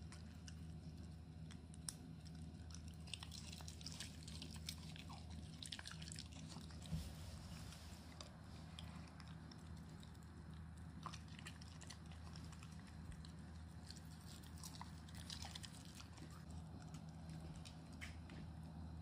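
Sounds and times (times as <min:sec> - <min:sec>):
dog licking and chewing food: 0:00.0 - 0:19.0
low steady hum: 0:00.0 - 0:19.0.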